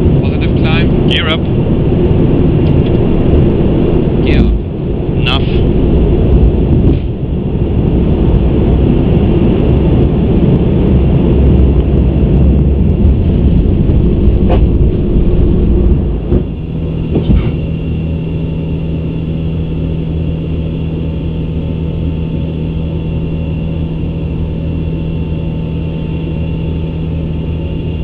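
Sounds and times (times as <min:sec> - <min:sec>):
jet engine and airflow rumble: 0:00.0 - 0:28.0.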